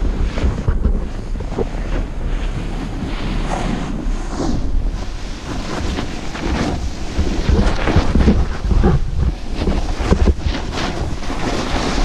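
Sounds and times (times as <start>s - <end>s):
edges sliding over snow: 0.0s - 12.0s
wind buffeting microphone: 0.0s - 12.0s.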